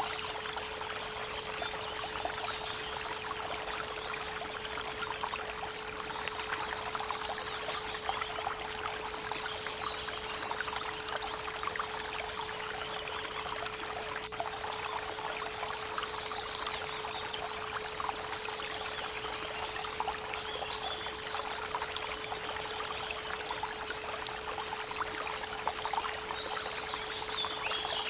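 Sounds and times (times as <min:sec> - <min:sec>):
creek water babbling: 0:00.0 - 0:28.0.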